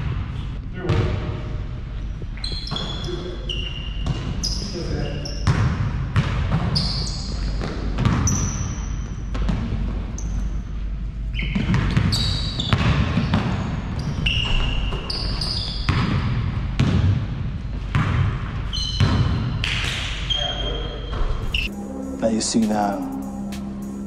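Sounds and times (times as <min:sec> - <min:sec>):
sneakers squeaking on court: 0:02.4 - 0:21.7.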